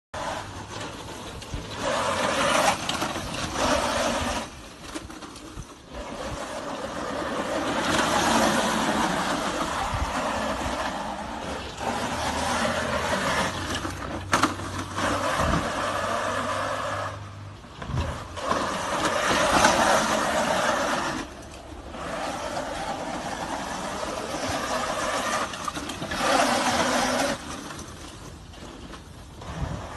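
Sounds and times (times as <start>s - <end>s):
mini bike engine revving: 0.2s - 29.9s.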